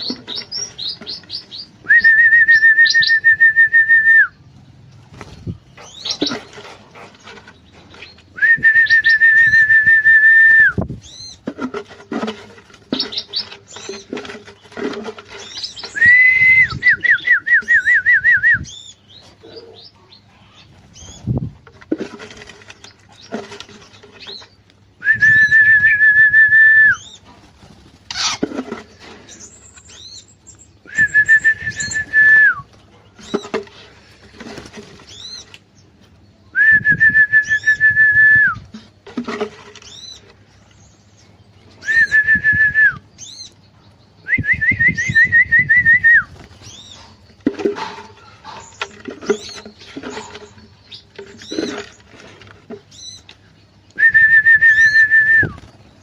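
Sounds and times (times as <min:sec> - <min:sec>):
bulbuls chirping: 0:00.0 - 0:03.2, 0:04.3 - 0:09.7, 0:10.7 - 0:26.0, 0:26.9 - 0:36.6, 0:38.6 - 0:42.3, 0:43.0 - 0:56.0.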